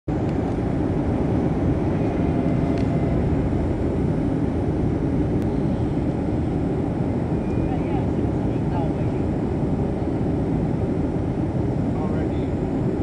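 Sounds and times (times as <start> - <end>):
airplane cabin jet engine rush: 0.1 - 13.0.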